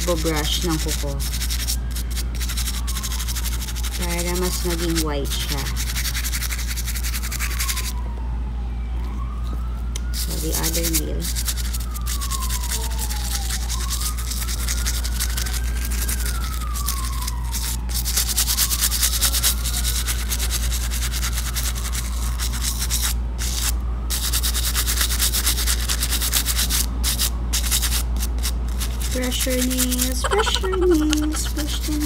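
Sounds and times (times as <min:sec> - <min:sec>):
nail brush scrubbing: 0:00.0 - 0:07.9, 0:10.0 - 0:32.0.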